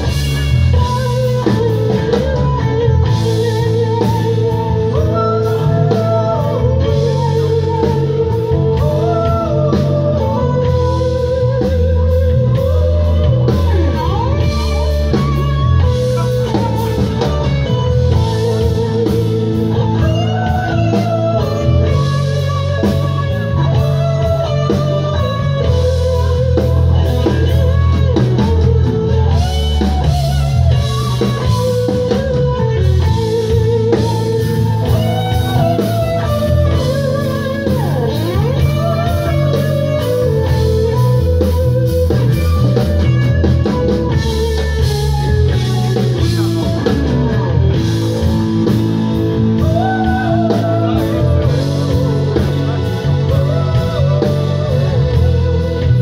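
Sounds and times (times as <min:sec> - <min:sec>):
electric guitar with bent notes: 0:00.0 - 0:56.0
live rock band playing: 0:00.0 - 0:56.0.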